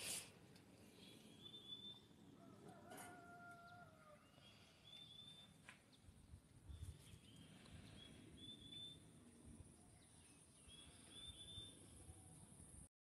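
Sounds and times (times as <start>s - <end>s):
faint birds chirping: 0.7s - 12.9s.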